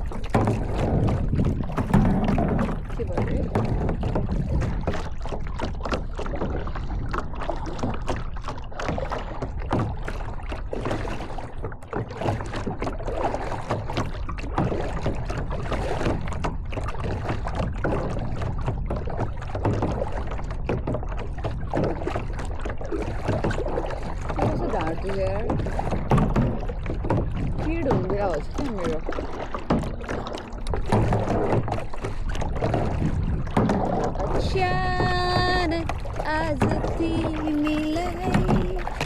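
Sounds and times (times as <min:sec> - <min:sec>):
paddle splashing in water: 0:00.0 - 0:39.0.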